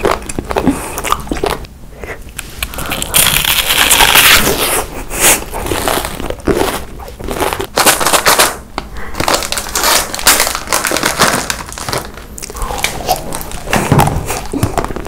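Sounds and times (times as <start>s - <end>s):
crunchy chewing: 0.0s - 15.0s
foil wrapper crinkling: 2.4s - 15.0s.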